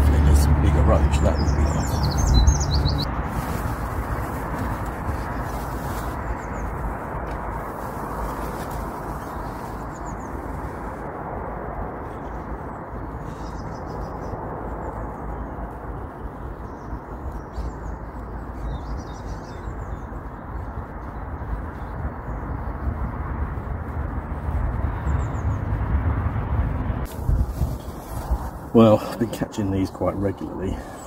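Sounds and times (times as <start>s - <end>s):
small birds chirping: 0.0s - 7.0s, 7.8s - 10.9s, 12.0s - 22.9s, 24.7s - 25.8s, 27.3s - 31.0s.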